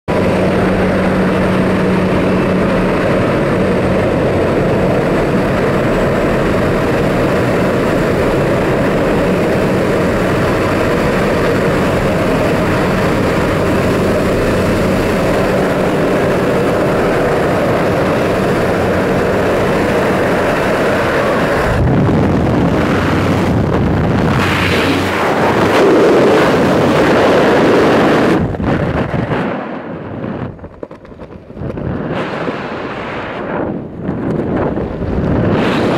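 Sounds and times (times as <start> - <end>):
propeller aircraft engine drone: 0.1 - 35.9
wind buffeting microphone: 0.1 - 35.9.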